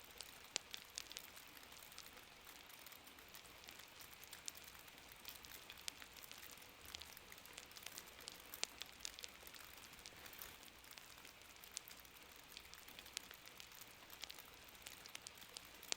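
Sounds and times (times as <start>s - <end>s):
fire crackling: 0.0s - 15.9s
soft rain: 0.0s - 15.9s.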